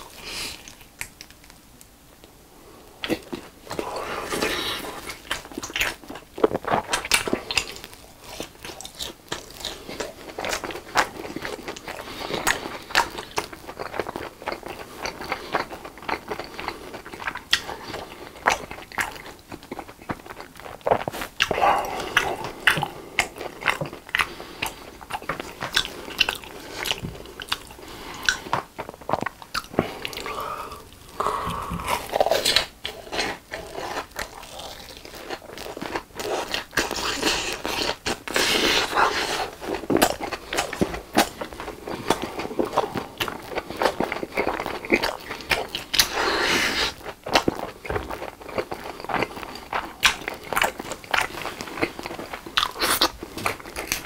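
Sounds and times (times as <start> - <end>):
crunchy food chewing: 3.0 - 54.0.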